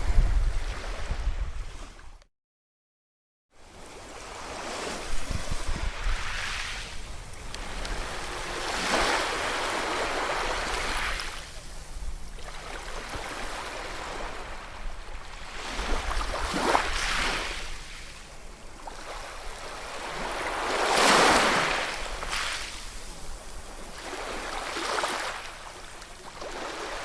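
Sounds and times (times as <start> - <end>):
ocean waves breaking on shore: 3.7 - 27.0.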